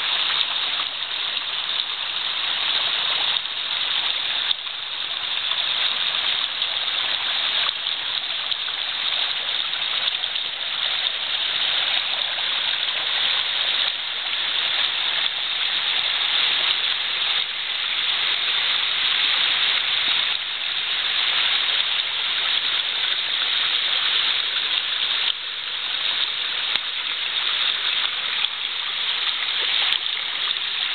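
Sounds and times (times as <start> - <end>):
water rushing over rocks: 0.0 - 30.9.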